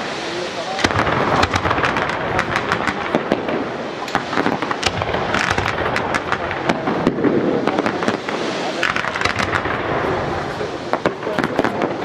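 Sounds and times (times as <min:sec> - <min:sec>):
fireworks crackling: 0:00.0 - 0:12.0
fireworks cracks and bangs: 0:00.0 - 0:12.0.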